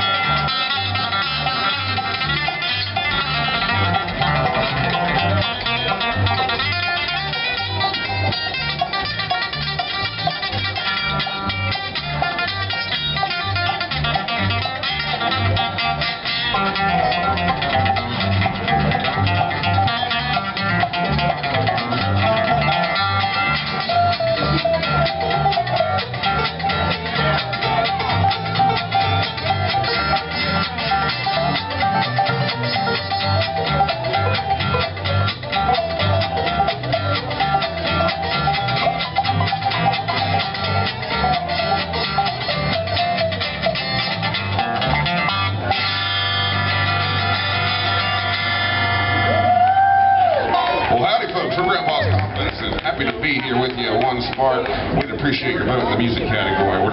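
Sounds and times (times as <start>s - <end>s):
bluegrass band playing: 0.0s - 56.9s
fast picked string instruments: 0.0s - 56.9s
pulsing bass line: 0.0s - 56.9s.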